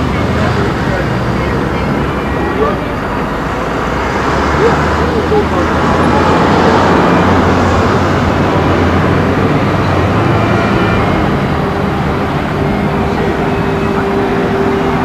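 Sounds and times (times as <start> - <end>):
low engine hum: 0.0 - 15.0
passing cars and buses: 0.0 - 15.0.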